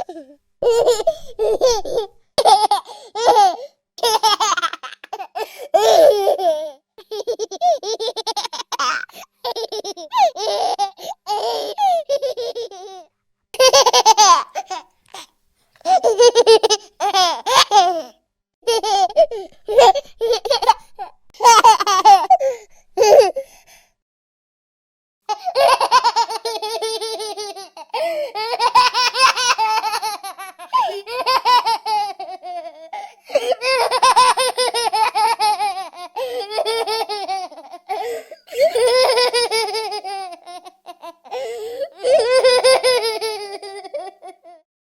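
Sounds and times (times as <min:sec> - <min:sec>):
baby laughing: 0:00.0 - 0:23.4, 0:25.3 - 0:44.6.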